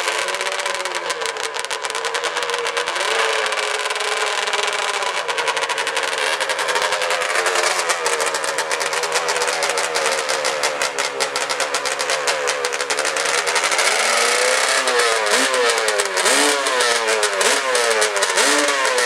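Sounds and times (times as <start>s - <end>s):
quad engine revving hard: 0.0s - 19.0s
tyres spinning in burnout: 0.0s - 19.0s.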